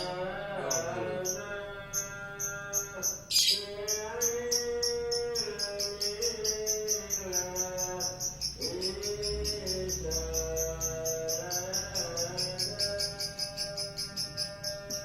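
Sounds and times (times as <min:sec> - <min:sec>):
bird chirping: 0:00.0 - 0:15.0
chanted singing: 0:00.0 - 0:15.0.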